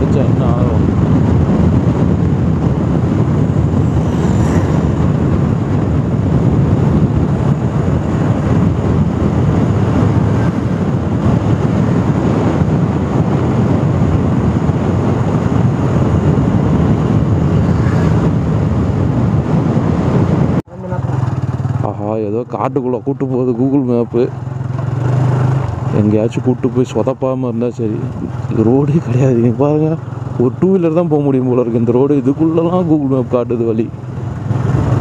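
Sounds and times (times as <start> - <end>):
motorcycle engine cruising: 0.0 - 35.0
wind rushing over microphone: 0.0 - 35.0.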